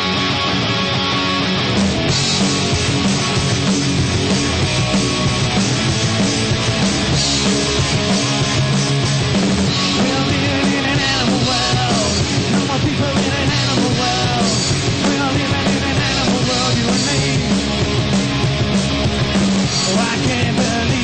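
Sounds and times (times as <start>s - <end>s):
punk rock band playing live: 0.0s - 21.0s.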